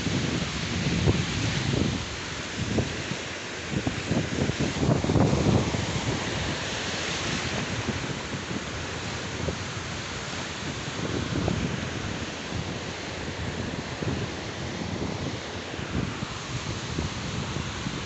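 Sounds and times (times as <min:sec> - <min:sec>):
waves washing on sand: 0:00.0 - 0:18.0
wind buffeting microphone: 0:00.0 - 0:18.0.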